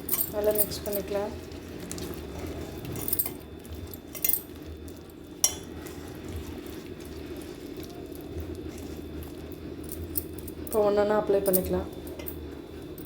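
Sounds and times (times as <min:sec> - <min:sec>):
paste stirred in a bowl: 0:00.0 - 0:10.6
steady low hum: 0:00.0 - 0:13.0.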